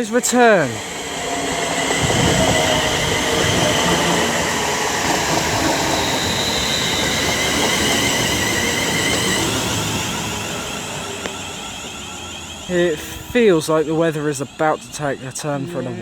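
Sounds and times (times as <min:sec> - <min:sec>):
train wheels rumbling on rails: 0:00.0 - 0:15.8
high whine of train: 0:00.0 - 0:16.0.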